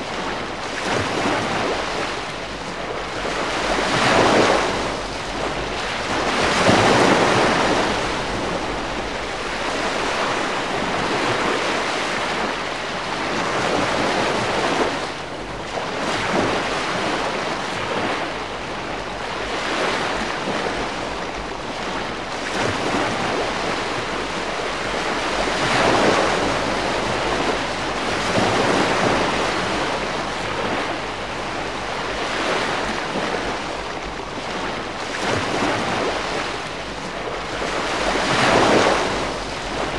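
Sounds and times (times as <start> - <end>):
small waves washing: 0.0 - 39.9.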